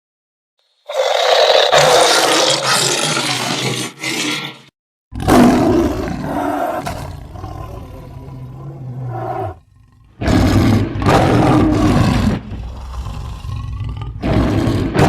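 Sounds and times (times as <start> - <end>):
lion roaring: 0.9 - 15.0.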